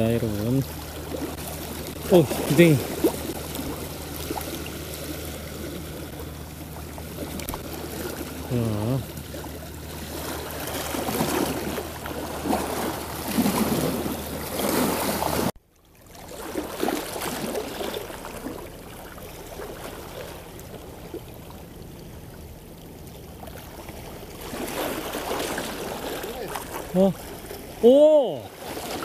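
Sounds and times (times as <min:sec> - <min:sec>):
steady low hum: 0:00.0 - 0:29.0
water sloshing around boat: 0:00.0 - 0:29.0.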